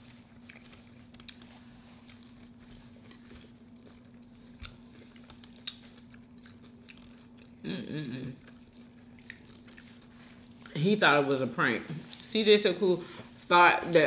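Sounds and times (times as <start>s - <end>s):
chewing and crunching food: 0.0s - 14.0s
faint low hum: 0.0s - 14.0s.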